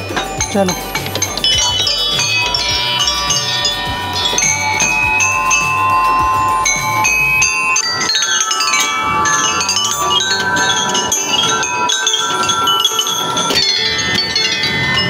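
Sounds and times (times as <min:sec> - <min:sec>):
metal tubular chimes ringing: 0:00.0 - 0:15.0
xylophone bars struck: 0:00.0 - 0:15.0.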